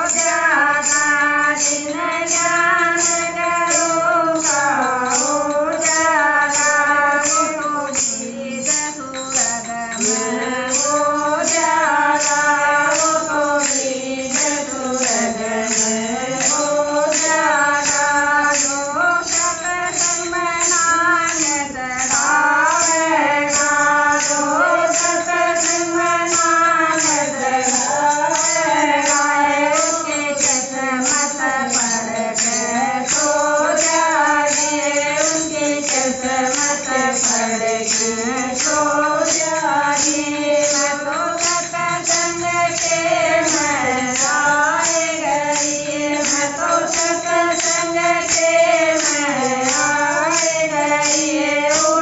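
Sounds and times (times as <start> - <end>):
jingle clappers clashing: 0.0 - 52.0
women singing together: 0.0 - 52.0.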